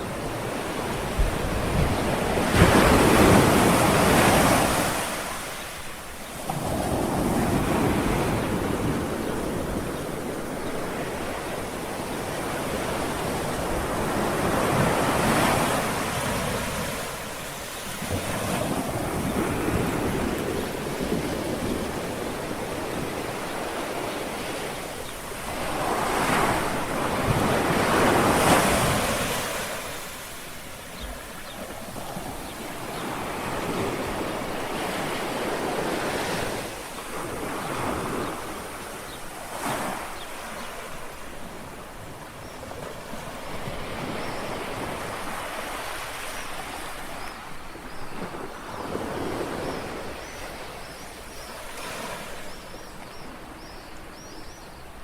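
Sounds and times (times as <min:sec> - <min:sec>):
small waves lapping on shore: 0:00.0 - 0:55.0.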